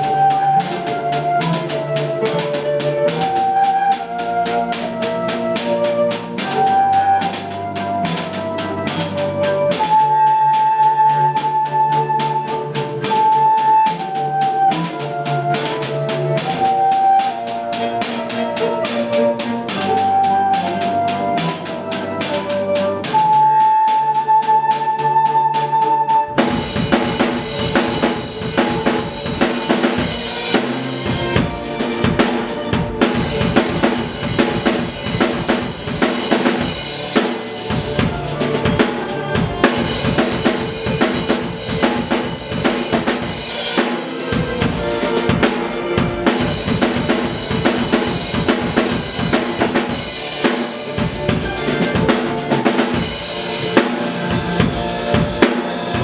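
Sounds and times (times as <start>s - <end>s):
bass drum and snare beat: 0.0s - 10.3s, 12.4s - 23.4s, 26.4s - 56.0s
rock band playing: 0.0s - 56.0s.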